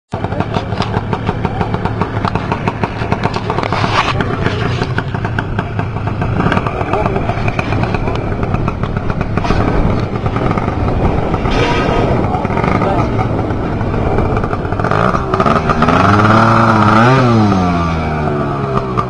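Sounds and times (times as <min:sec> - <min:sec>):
scooter engine revving hard: 0:00.2 - 0:19.0.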